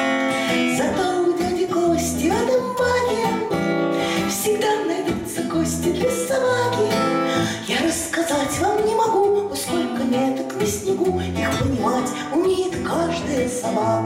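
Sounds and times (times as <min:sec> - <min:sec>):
strummed acoustic guitar: 0:00.0 - 0:14.0
woman singing: 0:00.2 - 0:14.0.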